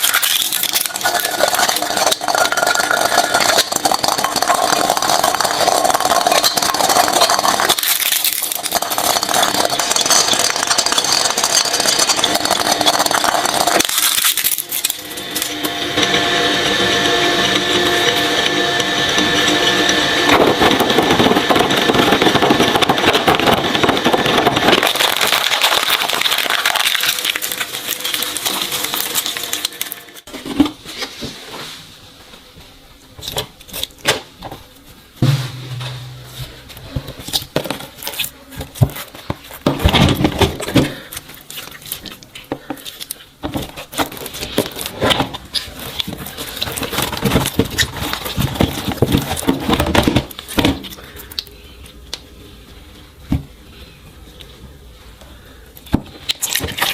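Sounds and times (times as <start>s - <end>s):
shredder grinding and crunching: 0.0s - 30.8s, 35.2s - 51.5s, 56.1s - 56.9s.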